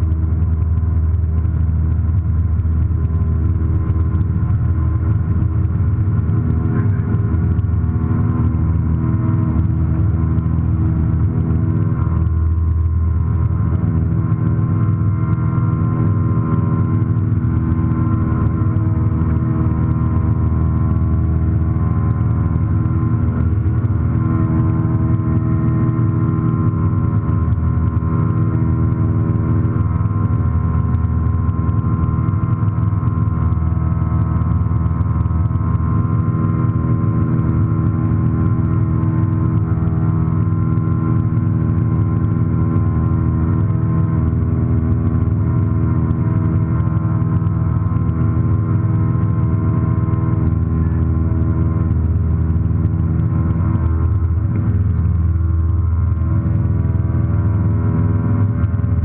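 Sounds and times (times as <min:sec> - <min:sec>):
light aircraft engine drone: 0:00.0 - 0:59.0.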